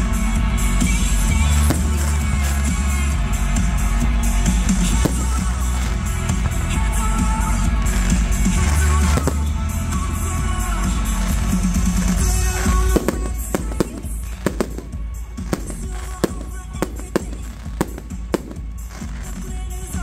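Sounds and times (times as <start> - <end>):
music playing: 0.0 - 20.0
fireworks bangs: 1.2 - 20.0.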